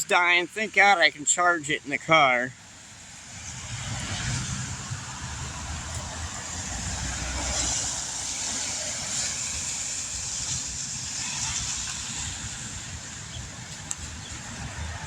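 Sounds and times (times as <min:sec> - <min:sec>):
road traffic hiss: 0:00.0 - 0:15.0
wind rumbling on microphone: 0:02.9 - 0:15.0.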